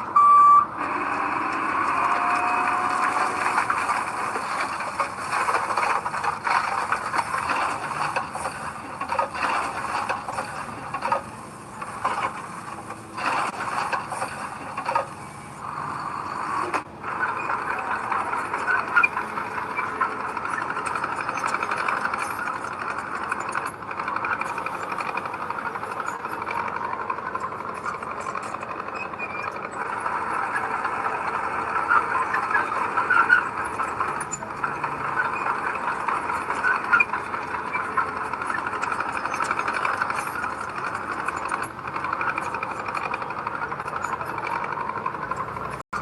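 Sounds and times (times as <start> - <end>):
heavy diesel machinery rattling: 0.0 - 46.0.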